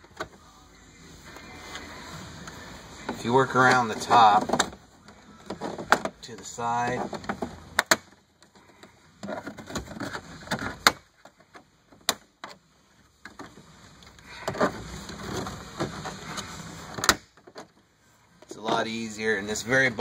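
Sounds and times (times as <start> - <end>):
plastic rubbing and creaking: 1.3 - 17.8.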